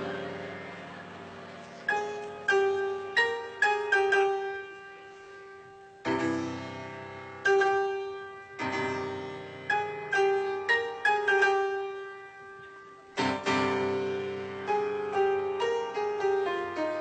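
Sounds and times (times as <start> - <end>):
piano notes: 0.0 - 17.0.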